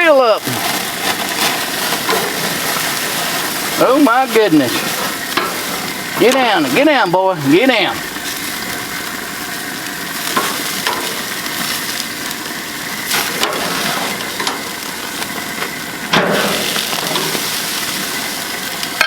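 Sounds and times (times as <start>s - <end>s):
grease popping: 0.0s - 19.0s
meat sizzling on grill: 0.0s - 19.0s.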